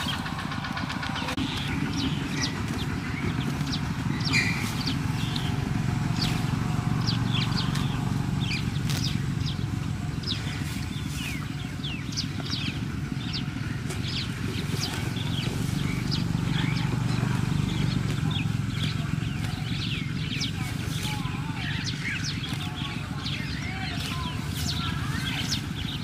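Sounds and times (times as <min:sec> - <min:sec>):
low rumble: 0:00.0 - 0:26.0
small birds chirping: 0:00.0 - 0:26.0.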